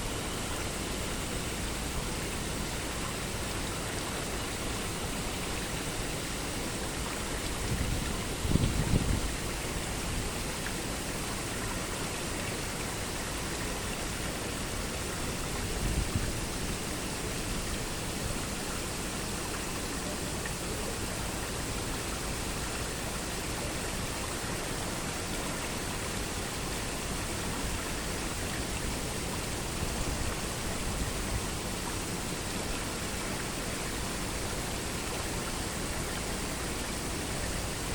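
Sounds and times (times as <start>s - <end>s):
running water rushing: 0.0s - 37.9s.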